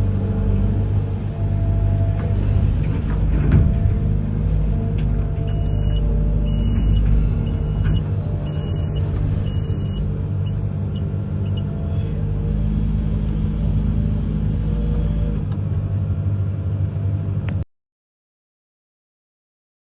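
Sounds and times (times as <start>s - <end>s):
diesel engine running: 0.0s - 17.6s.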